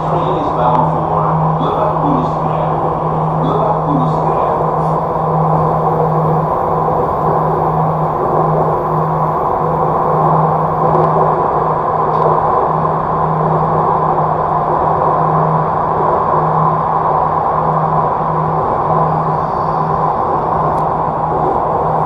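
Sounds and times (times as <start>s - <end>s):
low hum: 0.0s - 22.0s
train running rumble: 0.0s - 22.0s.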